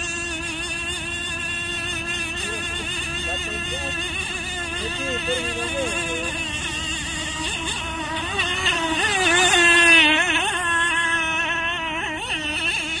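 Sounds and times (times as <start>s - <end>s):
rc boat motor whining: 0.0s - 13.0s.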